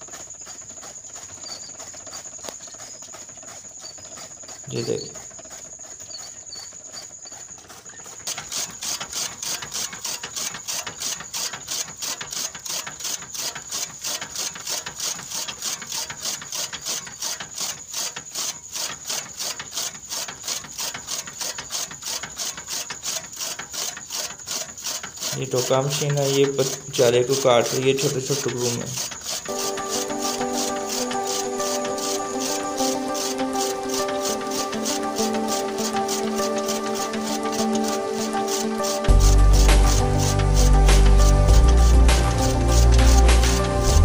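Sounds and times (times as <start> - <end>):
chaff cutter chopping fodder: 0.0 - 44.0.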